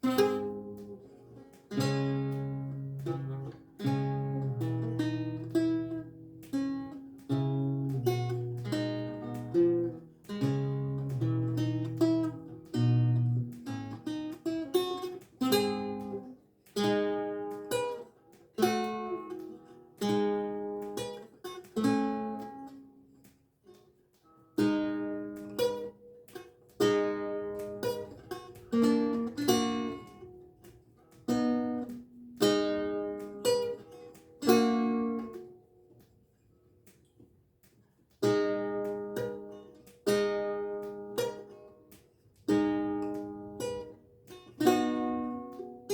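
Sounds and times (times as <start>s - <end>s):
lute playing: 0.0s - 23.0s, 24.6s - 35.7s, 38.2s - 45.9s.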